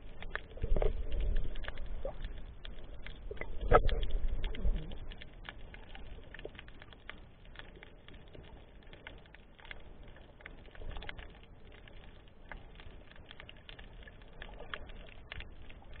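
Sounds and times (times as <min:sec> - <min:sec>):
low water rumble: 0:00.0 - 0:16.0
small irregular clicks and crackles: 0:00.0 - 0:16.0.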